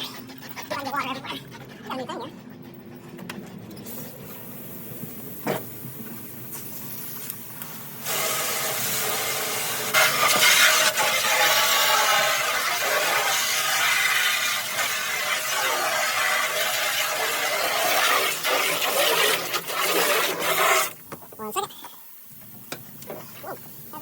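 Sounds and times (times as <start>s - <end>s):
water running with spraying hiss: 3.9s - 24.0s.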